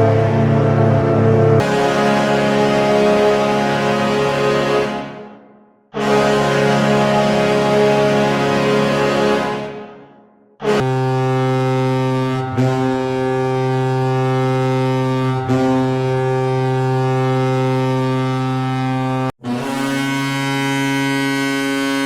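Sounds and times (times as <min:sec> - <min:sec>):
deep goal air horn: 0:00.0 - 0:22.0.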